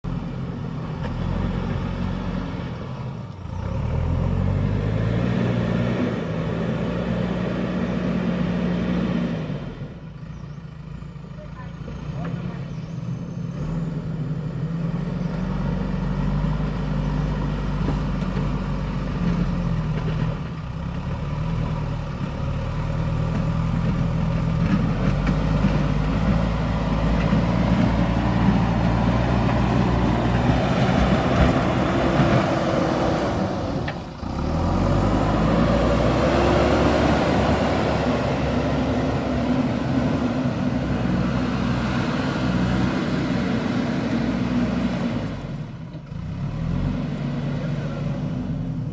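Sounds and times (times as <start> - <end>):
backhoe diesel engine working: 0.0 - 48.9.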